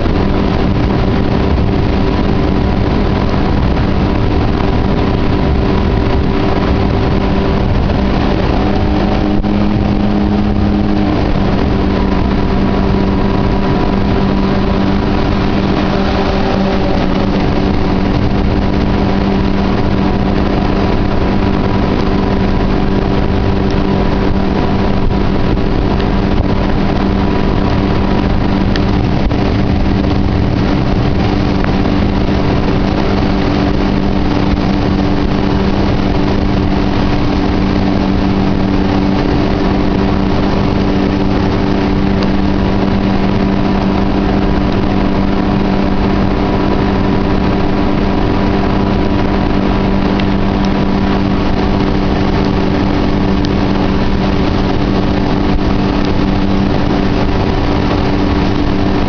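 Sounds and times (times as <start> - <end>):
boat engine drone: 0.0 - 59.0
low water rushing: 0.0 - 59.0.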